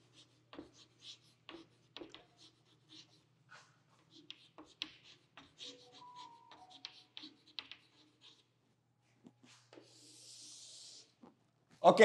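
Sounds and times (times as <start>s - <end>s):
chalk scraping a line: 0.0s - 8.6s, 9.4s - 11.2s
chalk tapping and scratching: 0.0s - 8.6s, 9.2s - 11.3s.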